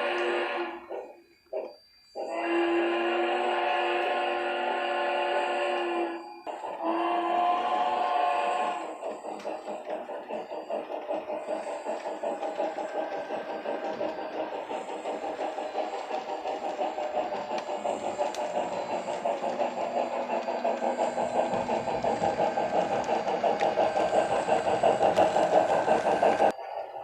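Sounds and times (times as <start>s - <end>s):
steam locomotive chuffs from speaker: 0.0s - 27.0s.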